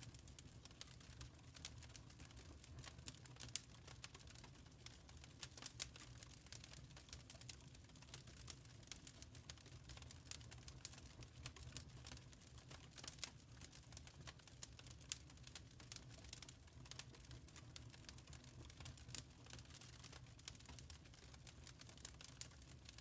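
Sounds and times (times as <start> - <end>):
fire crackling in a fireplace: 0.0 - 23.0.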